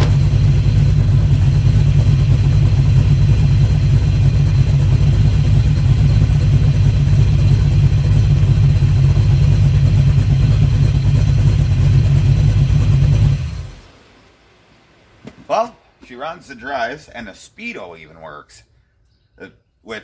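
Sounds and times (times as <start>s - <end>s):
truck engine running: 0.0s - 17.1s.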